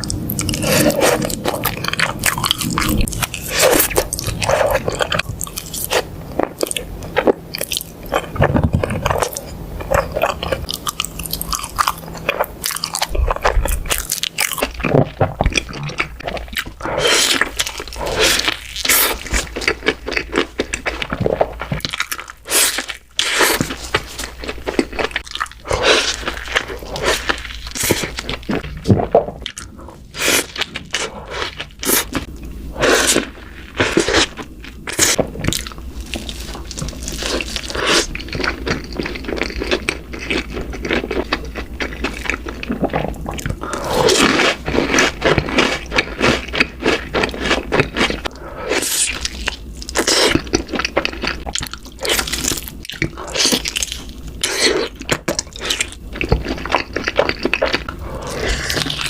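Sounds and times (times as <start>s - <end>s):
crunching bites and chewing: 0.0s - 59.0s.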